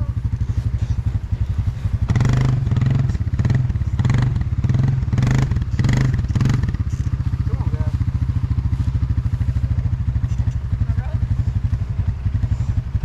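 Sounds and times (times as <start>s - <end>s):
small vehicle engine running: 0.0s - 13.0s.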